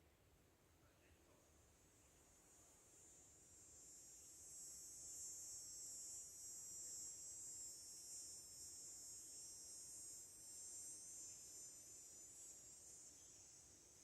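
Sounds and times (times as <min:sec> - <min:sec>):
high-pitched insect drone: 0:01.9 - 0:14.0.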